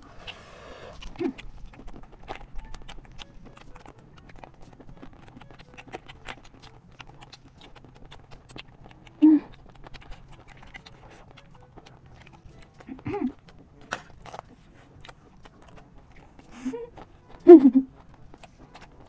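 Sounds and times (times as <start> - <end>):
crunching and chewing snack: 0.0 - 19.0.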